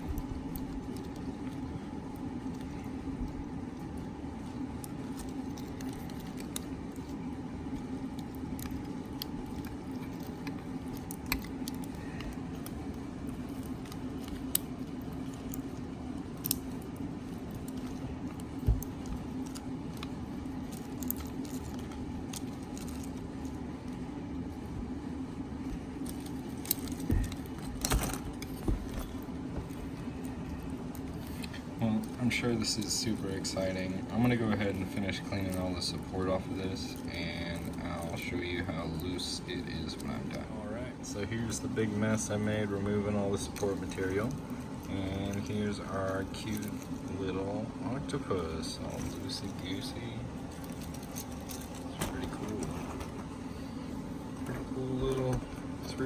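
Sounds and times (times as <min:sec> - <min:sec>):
air conditioner hum: 0:00.0 - 0:56.0.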